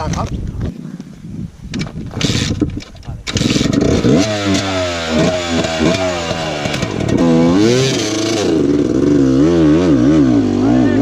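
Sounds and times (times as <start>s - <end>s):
motorcycle engine revving: 2.1s - 11.0s.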